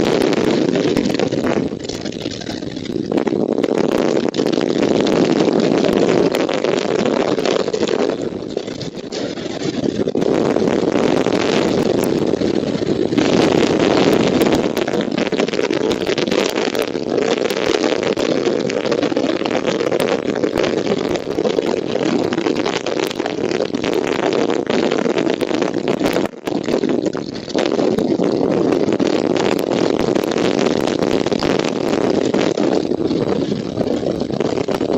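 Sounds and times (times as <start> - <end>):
crackles: 0.0 - 34.9
wind buffeting microphone: 0.0 - 34.9.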